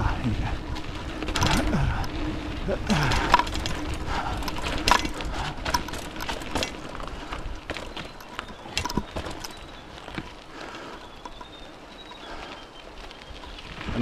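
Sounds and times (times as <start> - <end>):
bike clattering over dirt trail: 0.0 - 14.0
wind rumbling on microphone: 0.0 - 14.0.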